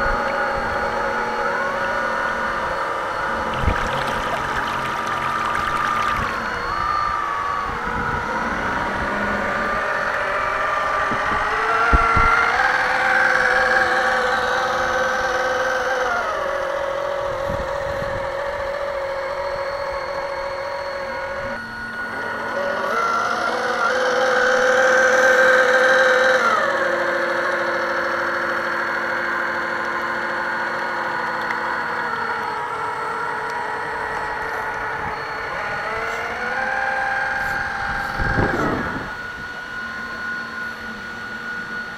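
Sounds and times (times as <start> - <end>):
model boat motor whine: 0.0 - 41.9.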